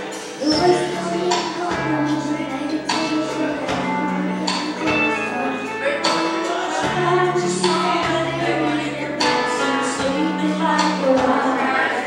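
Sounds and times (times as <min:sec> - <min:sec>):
girl and woman singing: 0:00.4 - 0:12.0.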